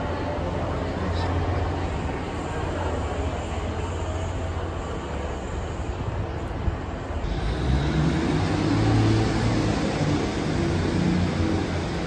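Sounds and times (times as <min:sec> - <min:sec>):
diesel train rumble: 0:00.0 - 0:12.0
train engine hum: 0:00.0 - 0:12.0.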